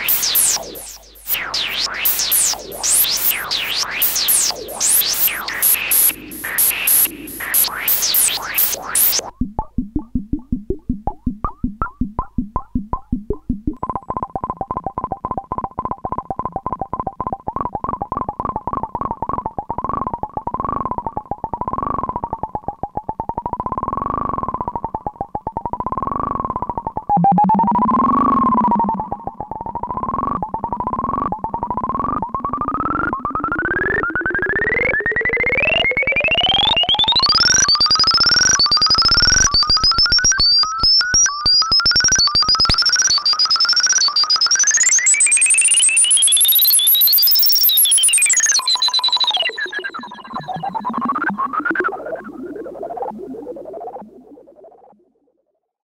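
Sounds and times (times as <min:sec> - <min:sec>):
synthesizer pulses with gliding pitch: 0:00.0 - 0:19.3, 0:20.3 - 0:40.4, 0:41.8 - 0:54.8.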